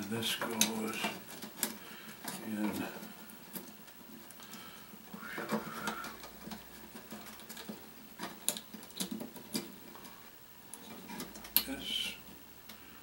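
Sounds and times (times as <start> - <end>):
rustle of handling wires: 0.0 - 13.0.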